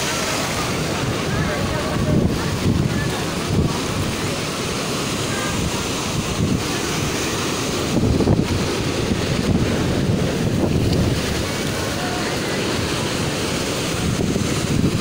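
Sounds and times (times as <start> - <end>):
surf breaking against seawall: 0.0 - 15.0
wind buffeting microphone: 0.0 - 15.0.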